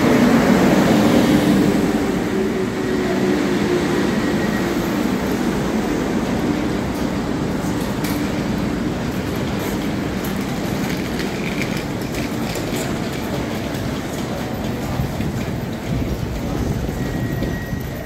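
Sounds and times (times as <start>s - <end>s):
standing train low rumble: 0.0s - 18.0s.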